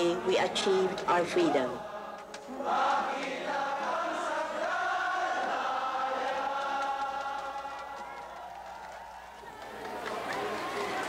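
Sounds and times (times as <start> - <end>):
choir singing held notes: 0.0 - 11.0.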